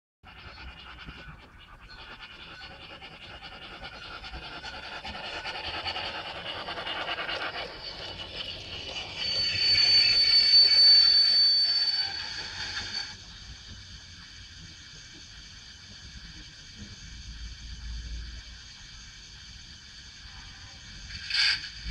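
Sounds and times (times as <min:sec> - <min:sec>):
model steam locomotive running: 0:00.3 - 0:21.9.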